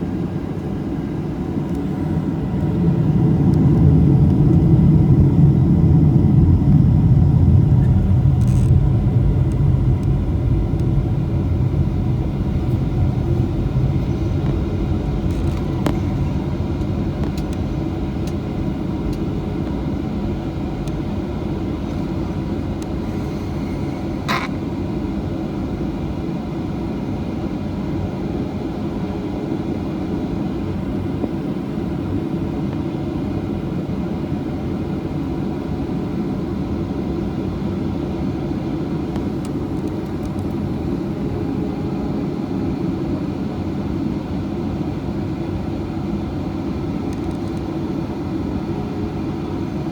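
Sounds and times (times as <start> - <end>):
jet engine cabin noise: 0.0 - 49.9.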